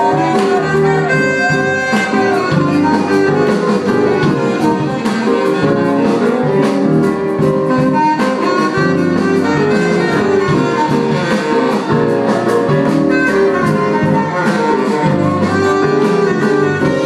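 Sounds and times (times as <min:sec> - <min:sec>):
drum kit: 0:00.0 - 0:17.0
guitar: 0:00.0 - 0:17.0
saxophone: 0:00.0 - 0:17.0.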